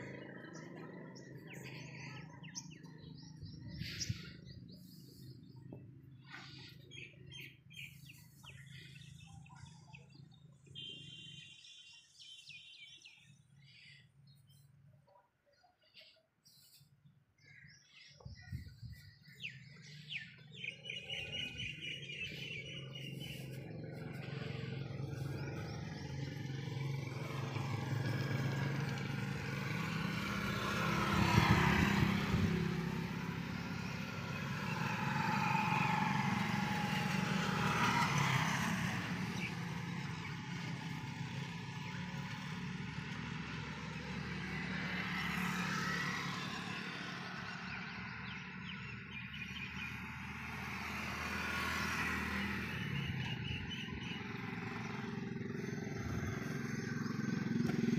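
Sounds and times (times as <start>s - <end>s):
steady engine hum: 0.0s - 11.6s, 16.0s - 57.9s
vehicles passing: 0.0s - 15.1s, 15.8s - 57.9s
small birds chirping: 0.0s - 57.9s.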